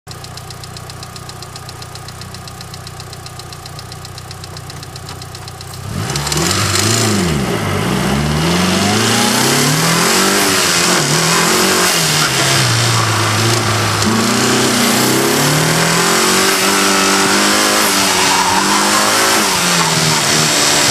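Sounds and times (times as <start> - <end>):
knocking car engine revving: 0.1 - 20.9.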